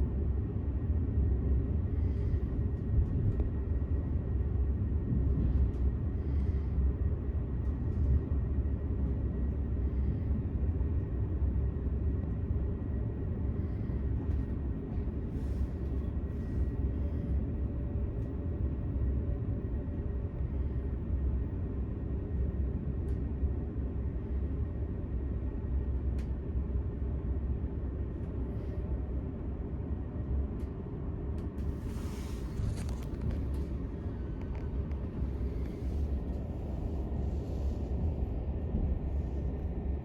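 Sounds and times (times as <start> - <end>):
train rumbling on track: 0.0 - 40.0.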